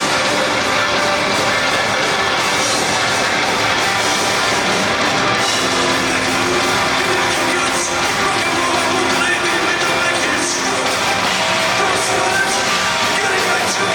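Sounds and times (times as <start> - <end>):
loud rock music: 0.0 - 13.9.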